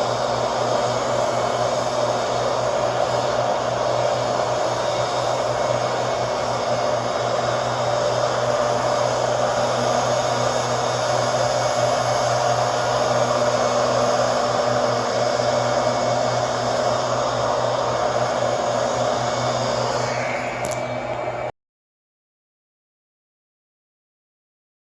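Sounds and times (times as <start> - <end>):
leaf blower running: 0.0 - 21.5.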